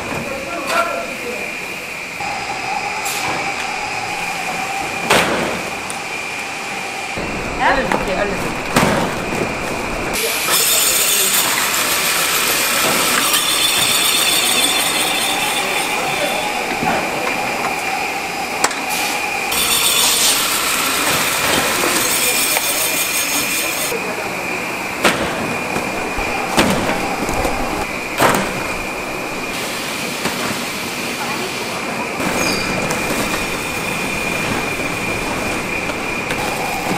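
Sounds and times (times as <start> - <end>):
cutting machine running: 2.2 - 29.6, 32.2 - 36.9.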